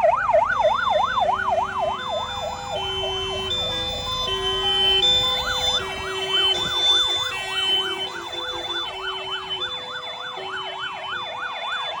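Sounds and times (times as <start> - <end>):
two-tone hi-lo siren: 0.0 - 12.0
yelp siren: 0.0 - 12.0.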